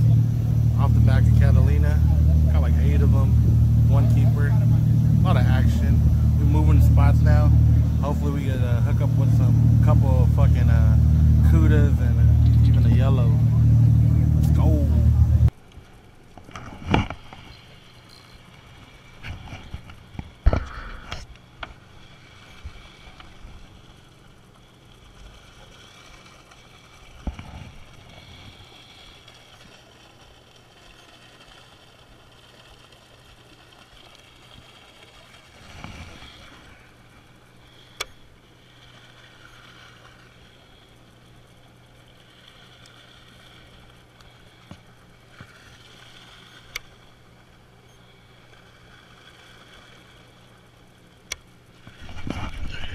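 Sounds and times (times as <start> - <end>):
boat engine humming: 0.0 - 52.9
water and wind noise: 0.0 - 52.9.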